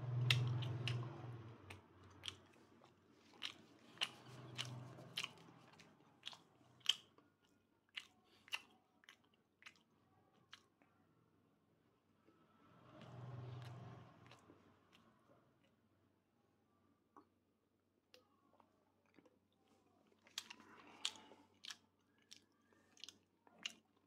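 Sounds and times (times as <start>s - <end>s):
person chewing with wet clicks: 0.1s - 11.0s, 13.0s - 15.8s, 18.1s - 24.0s.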